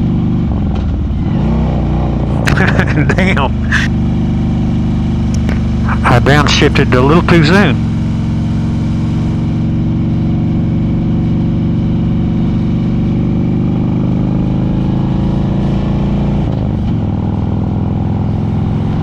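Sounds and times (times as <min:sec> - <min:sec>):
motorcycle engine pulling uphill: 0:00.0 - 0:19.0.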